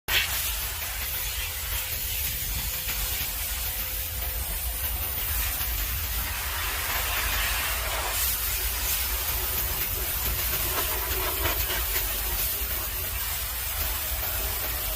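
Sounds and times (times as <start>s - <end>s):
high-pressure water spray hissing: 0.1s - 14.9s.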